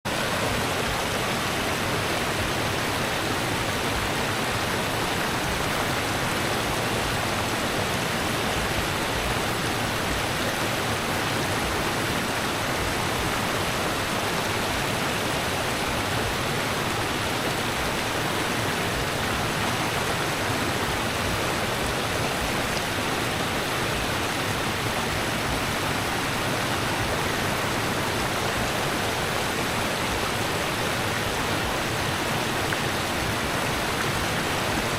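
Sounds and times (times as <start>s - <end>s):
rushing river water: 0.0s - 34.9s.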